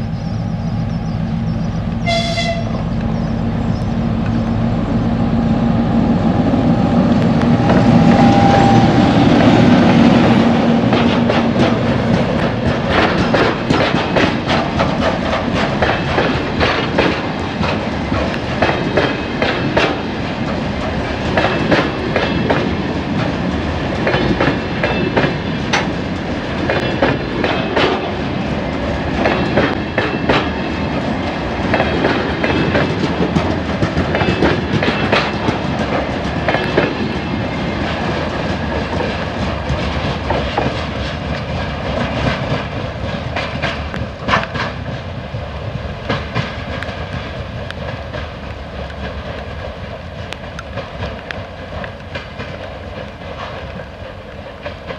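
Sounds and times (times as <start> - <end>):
train rumble: 0.0 - 54.9
train wheels clattering over rail joints: 7.2 - 54.9.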